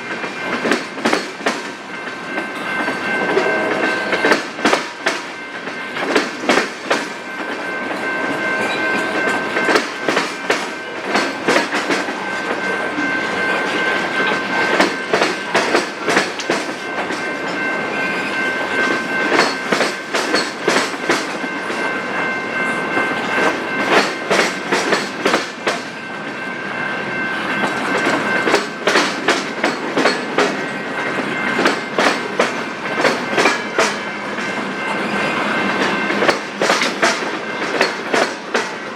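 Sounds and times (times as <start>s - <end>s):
train wheels clicking over rail joints: 0.0s - 8.0s, 8.9s - 12.7s, 13.5s - 17.7s, 18.7s - 21.9s, 23.0s - 26.0s, 27.5s - 38.9s.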